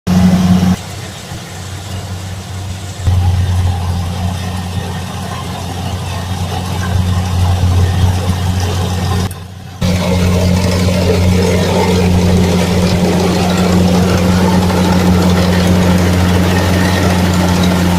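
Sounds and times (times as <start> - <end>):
combine harvester engine humming: 0.1 - 17.9.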